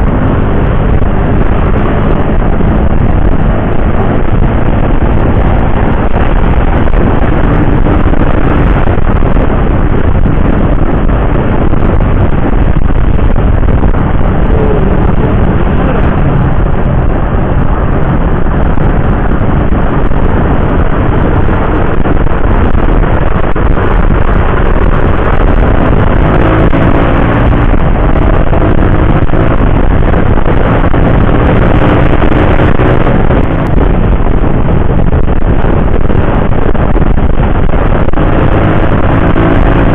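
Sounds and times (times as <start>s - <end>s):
motorcycle engine running: 0.0s - 39.9s
wind noise over microphone: 0.0s - 39.9s.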